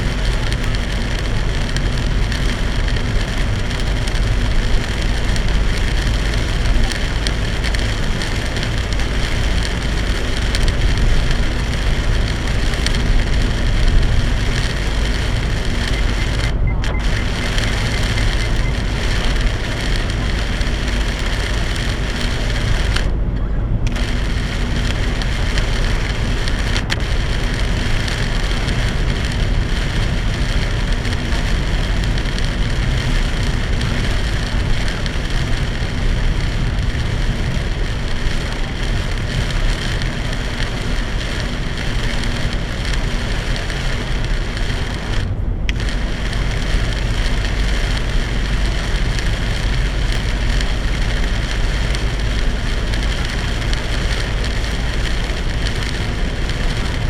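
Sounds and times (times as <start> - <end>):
heavy rain drumming on car: 0.0 - 57.0
tyre and road noise: 0.0 - 57.0.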